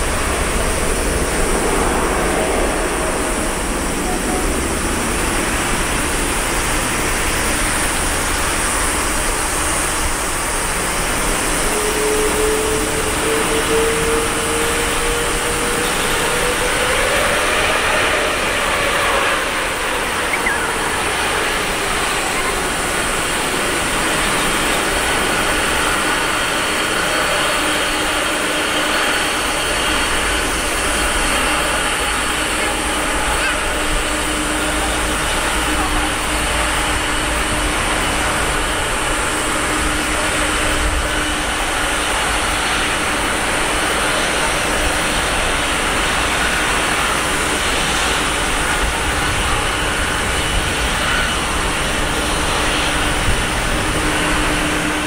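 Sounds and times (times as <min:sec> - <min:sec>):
jet engines running: 0:00.0 - 0:55.0
rising engine whine: 0:00.0 - 0:55.0.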